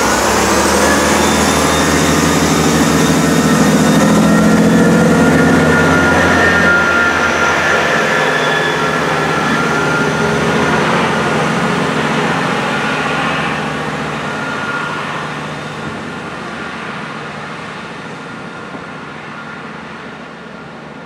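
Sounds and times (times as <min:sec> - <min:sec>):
high train whine: 0:00.0 - 0:21.0
train engine drone: 0:00.0 - 0:21.0.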